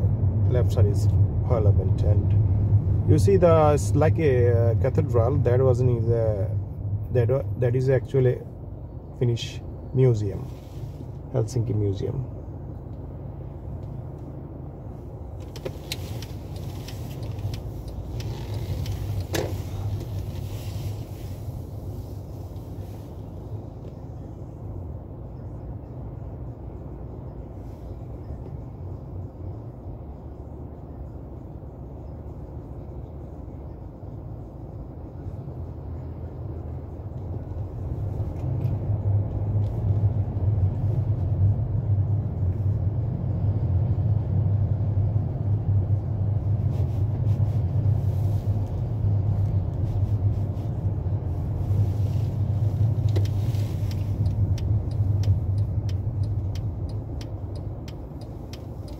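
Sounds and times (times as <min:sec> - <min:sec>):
car engine rumble: 0:00.0 - 0:58.9
road noise inside car: 0:00.0 - 0:58.9.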